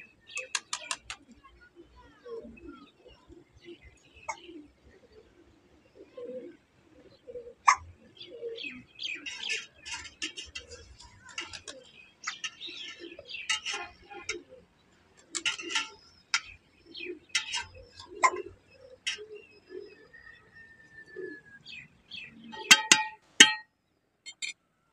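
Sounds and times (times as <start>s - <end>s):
doves cooing: 0.0s - 23.0s
small birds chirping: 0.0s - 23.6s, 24.2s - 24.6s.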